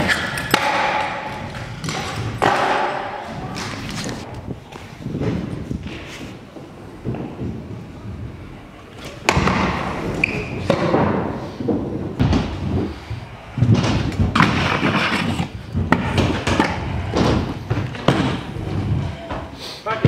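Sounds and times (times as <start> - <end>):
scooter wheels rolling: 0.0 - 19.6.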